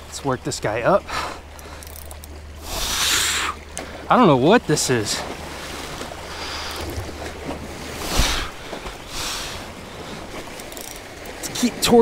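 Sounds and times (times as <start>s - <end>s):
waves splashing against rocks: 0.0s - 12.0s.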